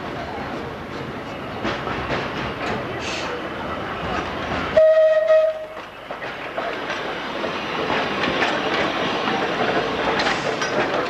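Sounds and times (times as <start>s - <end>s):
tram wheels clattering on rails: 0.0s - 11.0s.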